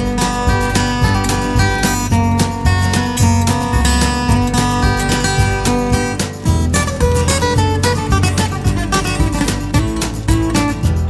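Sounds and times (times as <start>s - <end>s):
acoustic guitar piece: 0.0s - 11.0s.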